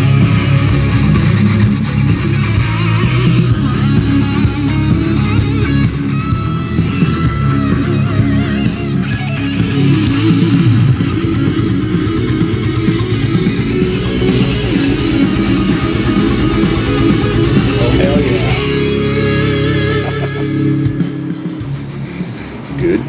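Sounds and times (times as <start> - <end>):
loud rock music with electric guitar: 0.0 - 23.0.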